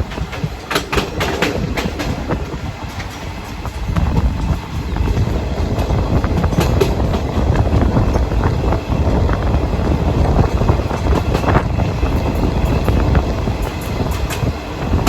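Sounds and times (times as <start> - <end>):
rail joint clicks: 0.0 - 15.0
train wheels rumbling on track: 0.0 - 15.0.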